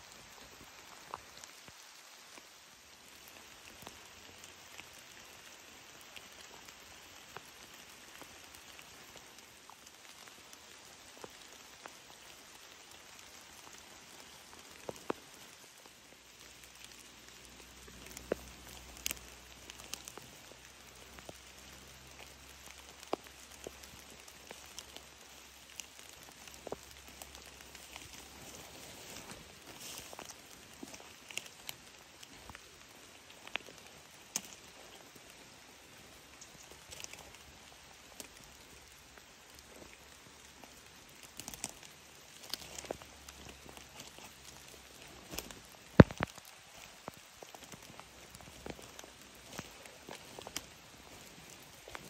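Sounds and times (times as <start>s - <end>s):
rain on foliage: 0.0s - 52.0s
sharp drips ticking: 0.2s - 52.0s.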